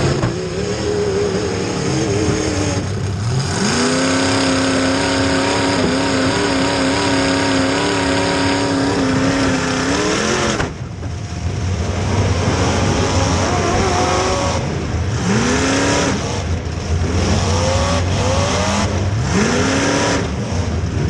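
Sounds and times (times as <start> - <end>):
car engine revving hard: 0.0 - 10.9, 11.6 - 21.0.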